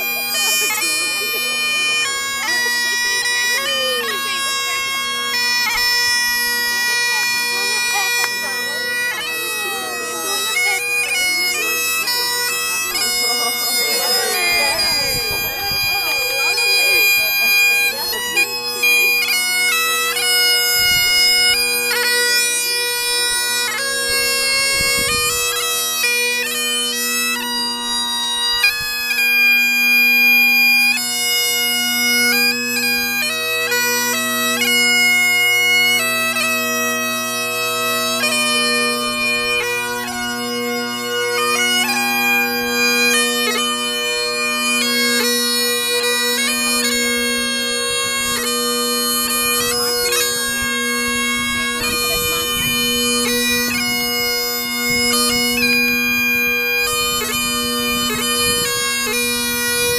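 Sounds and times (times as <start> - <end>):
bagpipe chanter melody: 0.0 - 59.9
bagpipe drones: 0.0 - 59.9.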